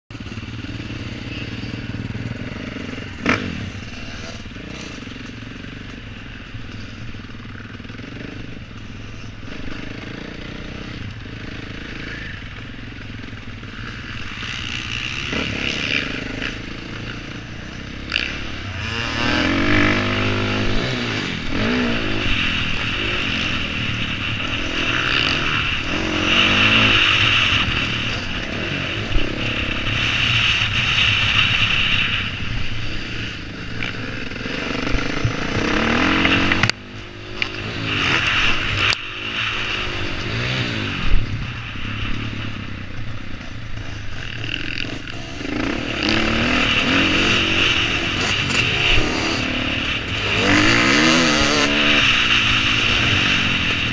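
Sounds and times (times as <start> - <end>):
dirt bike engine revving: 0.1 - 53.9.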